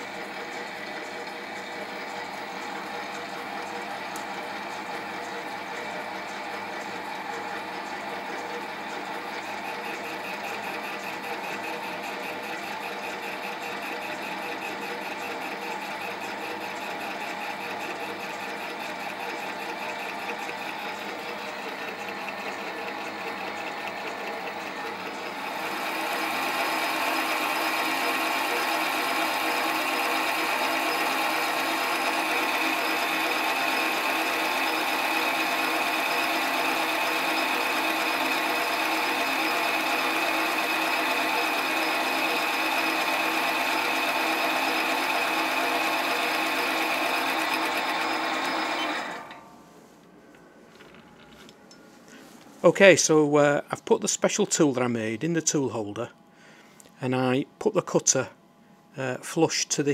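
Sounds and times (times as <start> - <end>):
lathe machine whine: 0.0 - 49.4.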